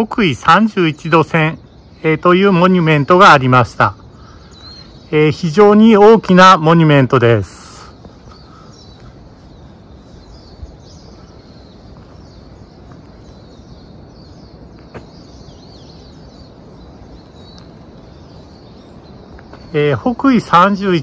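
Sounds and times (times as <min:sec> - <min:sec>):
small birds chirping: 0:00.0 - 0:21.0
steady background hiss: 0:00.0 - 0:21.0.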